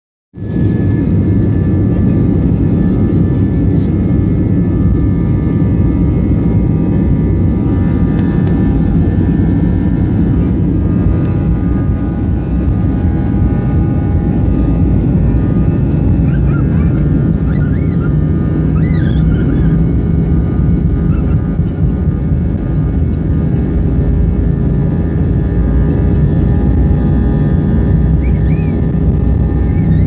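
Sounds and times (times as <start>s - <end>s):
jet engines roaring: 0.4s - 30.0s.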